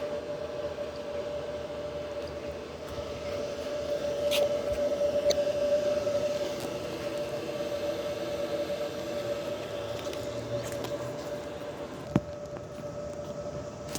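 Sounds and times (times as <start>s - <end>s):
train humming tone: 0.0s - 13.9s.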